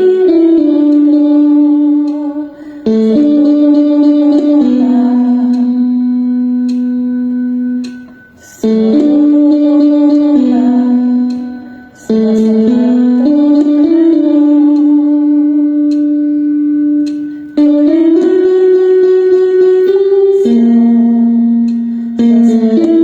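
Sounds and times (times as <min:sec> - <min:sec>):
slow music of long held notes: 0:00.0 - 0:23.0.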